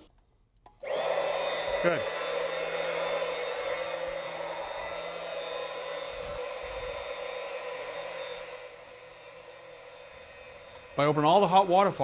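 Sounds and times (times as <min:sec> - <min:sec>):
electric pump whirring: 0:00.8 - 0:11.6.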